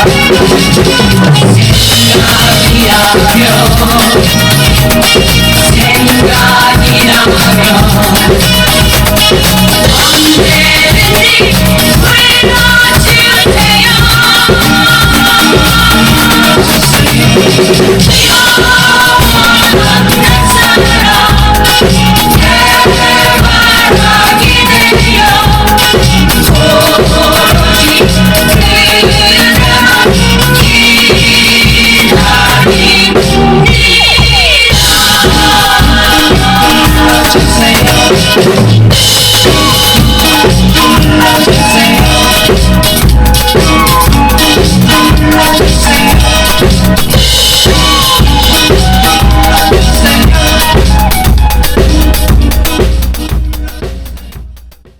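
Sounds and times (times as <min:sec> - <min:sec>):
drum kit playing: 0:00.0 - 0:54.9
pop song with singing: 0:00.0 - 0:54.9.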